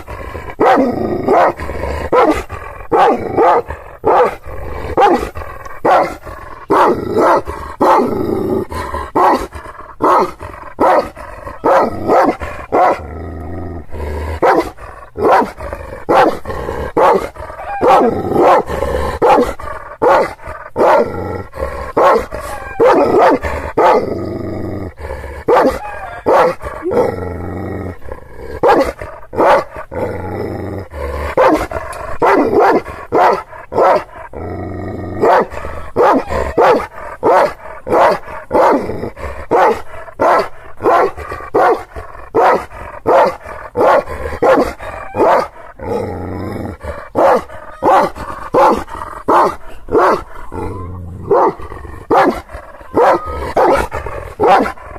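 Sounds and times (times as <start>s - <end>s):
dog barking deep and loud: 0.0s - 8.1s, 9.0s - 13.1s, 14.3s - 21.1s, 21.9s - 24.1s, 25.4s - 27.0s, 28.6s - 29.8s, 31.3s - 34.2s, 35.2s - 45.7s, 46.8s - 54.9s.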